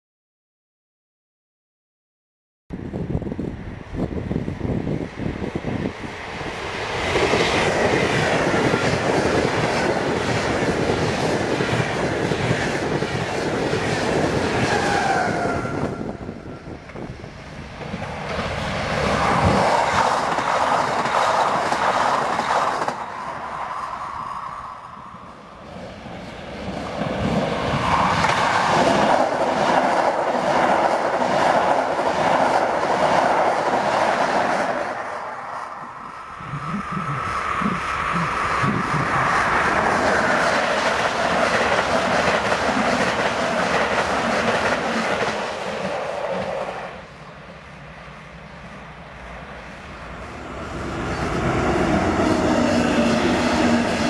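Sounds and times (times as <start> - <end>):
trains passing with clickety-clack: 2.8 - 54.0.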